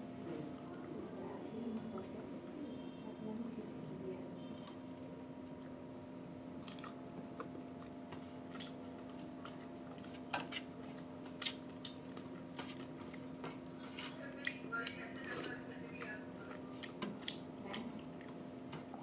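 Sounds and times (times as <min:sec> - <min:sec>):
person chewing food: 0:00.2 - 0:01.2, 0:04.6 - 0:19.0.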